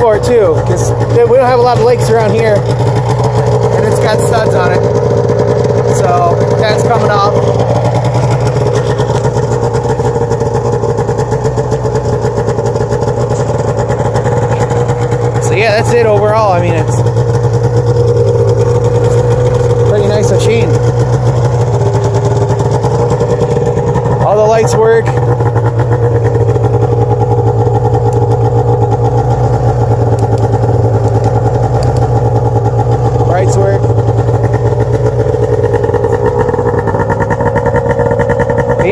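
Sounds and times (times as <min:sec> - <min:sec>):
snowmobile engine idling: 0:00.0 - 0:38.9.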